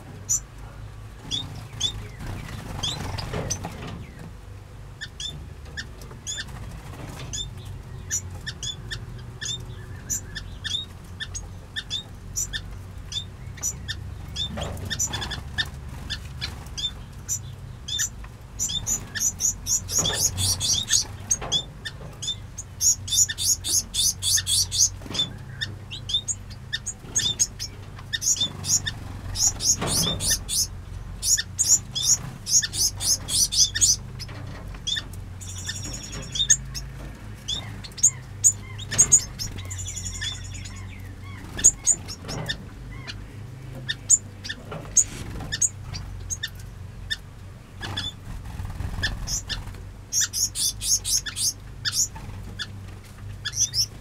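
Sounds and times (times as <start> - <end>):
finches chirping and twittering: 0.2 - 0.6, 1.2 - 4.4, 5.0 - 47.2, 47.8 - 54.0.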